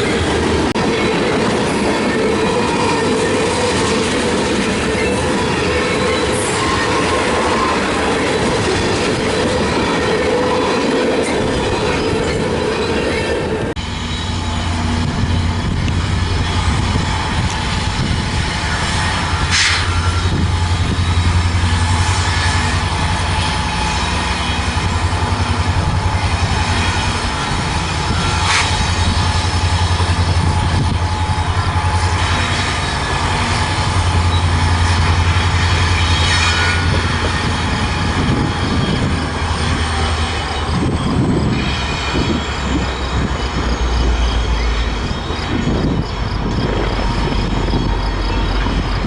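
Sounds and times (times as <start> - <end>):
train wheels rumbling on rails: 0.0 - 49.0
wheel squeal: 0.8 - 49.0.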